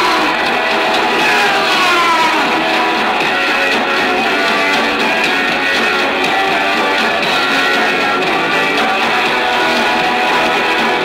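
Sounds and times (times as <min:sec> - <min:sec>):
punk rock band playing: 0:00.0 - 0:11.0
strummed guitar: 0:00.0 - 0:11.0.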